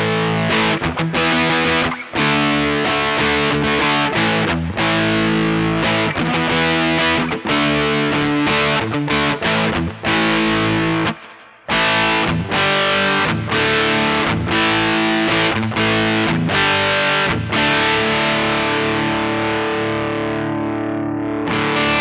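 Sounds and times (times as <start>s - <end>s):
distorted electric guitar chords: 0.0s - 22.0s.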